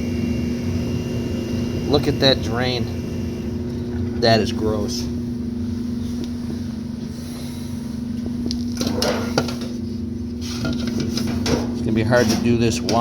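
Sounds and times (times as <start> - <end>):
refrigeration equipment humming: 0.0 - 13.0.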